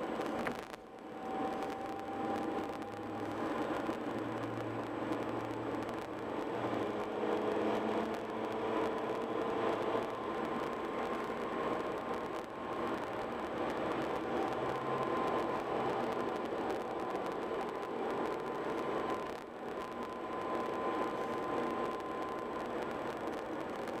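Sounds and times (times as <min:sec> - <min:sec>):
car road noise from inside: 0:00.0 - 0:24.0.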